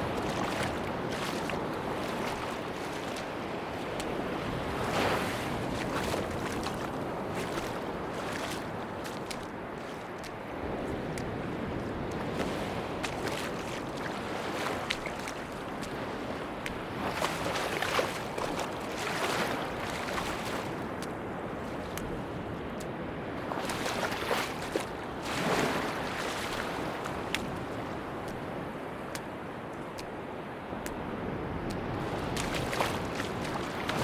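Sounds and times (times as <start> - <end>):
sea waves breaking on beach: 0.0 - 34.0.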